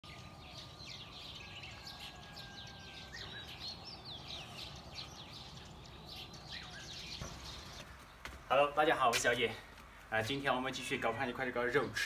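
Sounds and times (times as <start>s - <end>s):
low outdoor background hum: 0.0s - 12.0s
small birds chirping: 0.0s - 12.0s.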